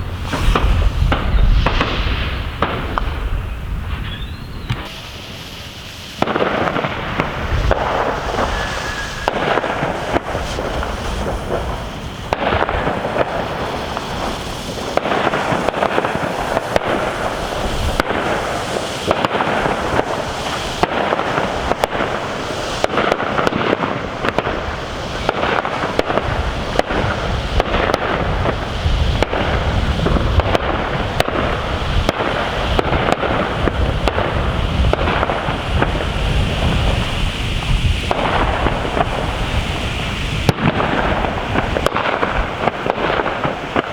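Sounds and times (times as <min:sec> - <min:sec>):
firework crackles and bangs: 0:00.0 - 0:43.9.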